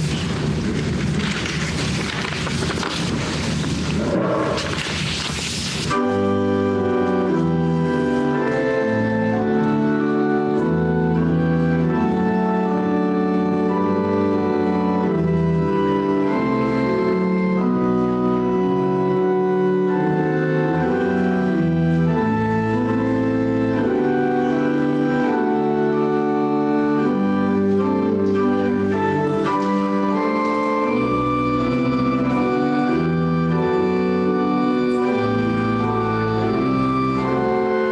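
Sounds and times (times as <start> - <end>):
organ playing slow chords: 5.9 - 37.9.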